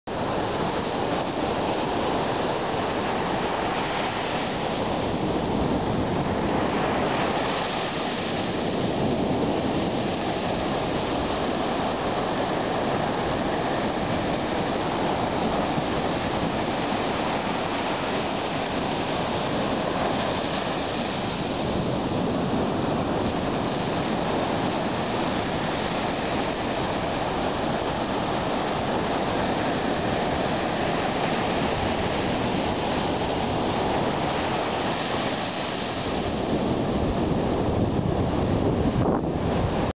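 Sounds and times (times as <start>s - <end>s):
ocean surf breaking: 0.1s - 39.9s.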